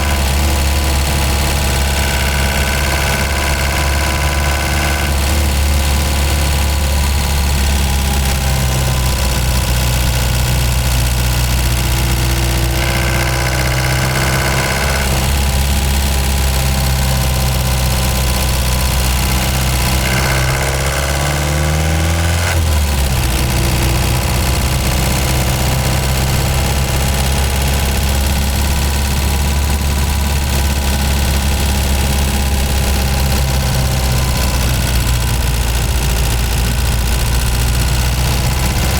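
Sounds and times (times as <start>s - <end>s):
van engine running: 0.0s - 38.9s.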